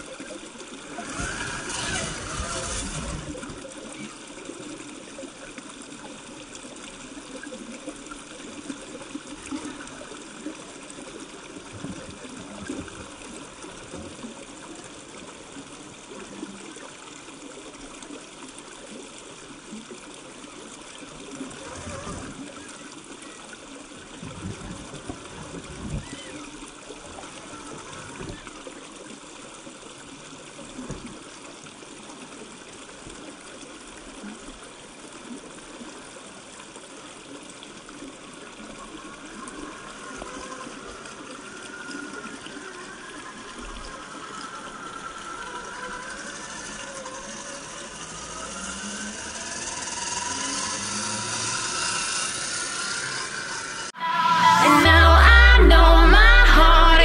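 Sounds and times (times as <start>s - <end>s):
water running over rocks: 0.0s - 54.0s.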